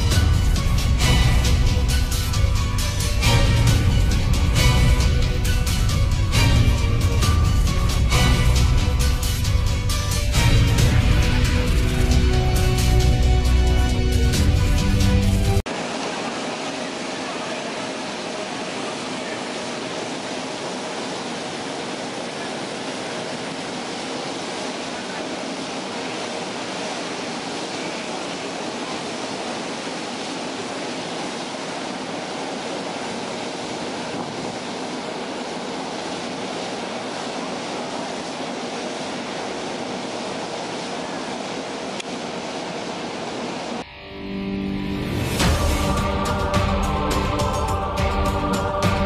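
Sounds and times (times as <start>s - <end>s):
wind and water rushing: 0.0s - 43.8s, 45.0s - 49.0s.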